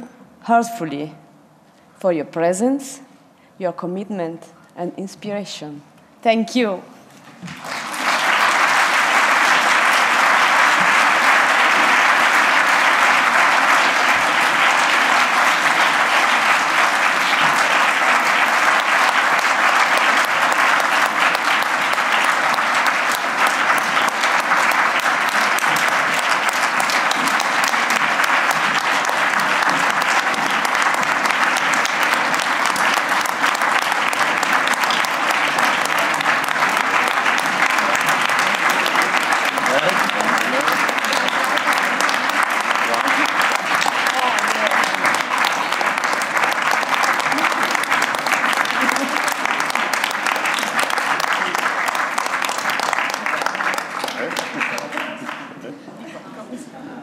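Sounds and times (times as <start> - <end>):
large audience applauding: 7.3 - 55.6.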